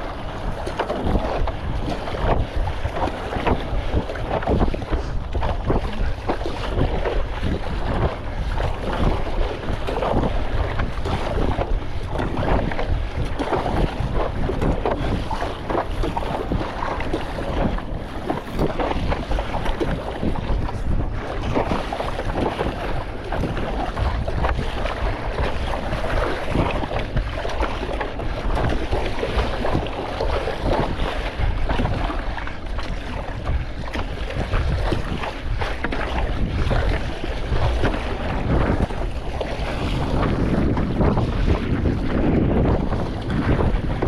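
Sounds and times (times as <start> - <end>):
sea water splashing: 0.0 - 44.0
wind buffeting microphone: 0.0 - 44.0.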